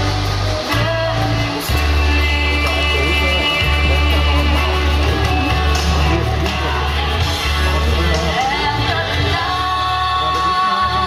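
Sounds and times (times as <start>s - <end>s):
heavy bass: 0.0s - 11.0s
person singing: 0.0s - 11.0s.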